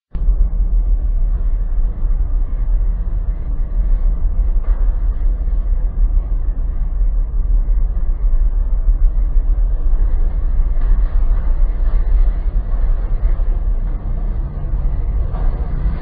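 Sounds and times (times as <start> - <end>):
ship noise rumble: 0.1 - 16.0.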